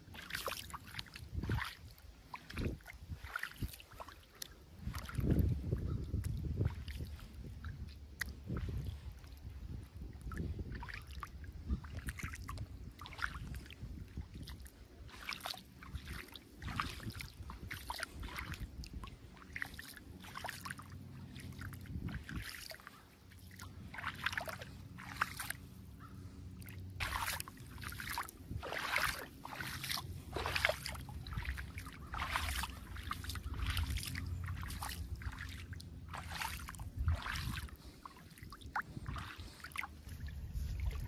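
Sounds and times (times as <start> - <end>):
feet splashing in shallow water: 0.0 - 41.0
steady low rumble: 0.0 - 41.0.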